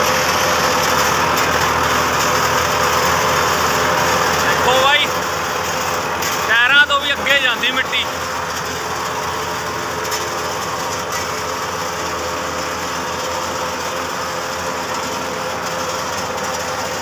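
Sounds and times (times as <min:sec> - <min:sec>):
tractor engine and machinery: 0:00.0 - 0:17.0.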